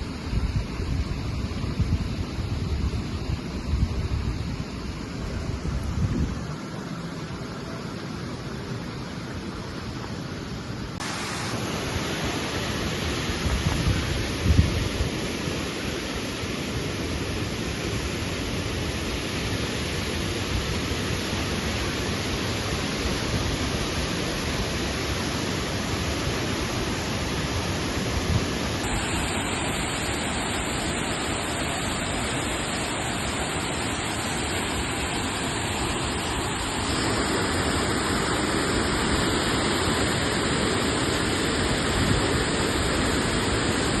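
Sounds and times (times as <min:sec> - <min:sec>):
waterfall rushing: 0:04.6 - 0:44.0.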